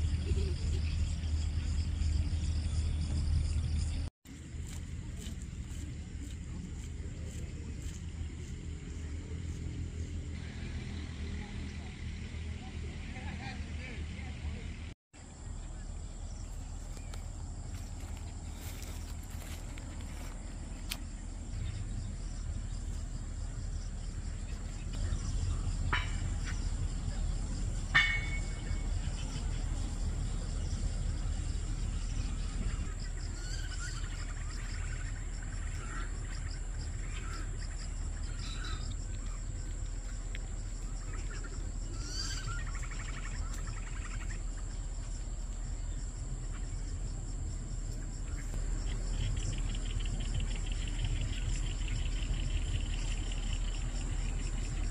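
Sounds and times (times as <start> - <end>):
birds chirping: 7.8 - 54.9.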